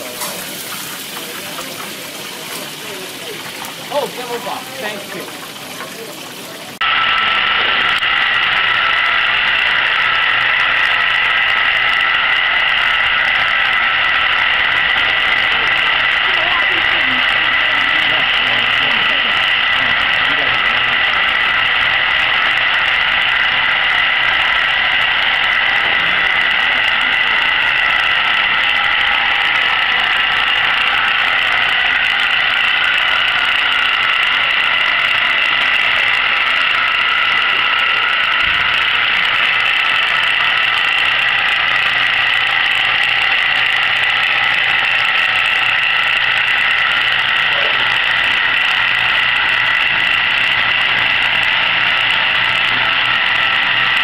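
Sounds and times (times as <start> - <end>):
rotisserie motor humming with whine: 0.0 - 54.0.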